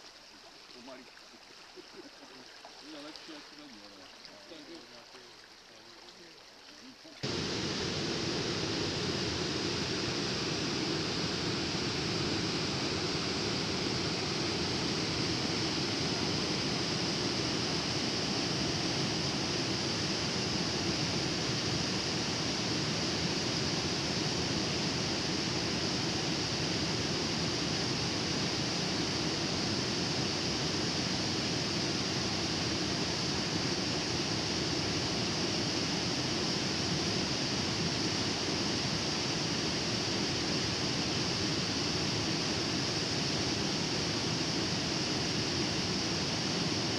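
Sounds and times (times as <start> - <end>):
river water pouring over weir: 0.0 - 46.9.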